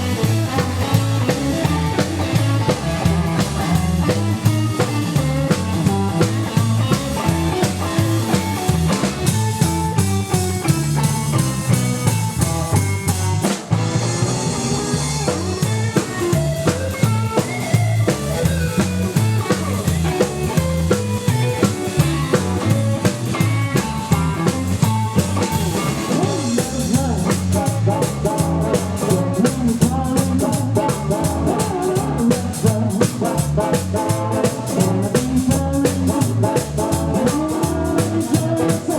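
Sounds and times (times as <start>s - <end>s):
double bass: 0.0s - 38.9s
drum kit with rimshots: 0.0s - 38.9s
lead guitar: 0.0s - 38.9s.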